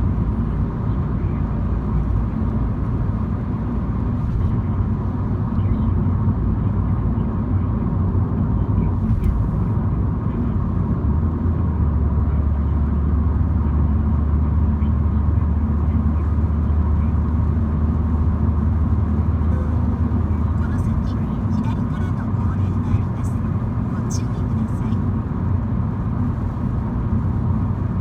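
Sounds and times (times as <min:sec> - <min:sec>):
car engine drone: 0:00.0 - 0:28.0.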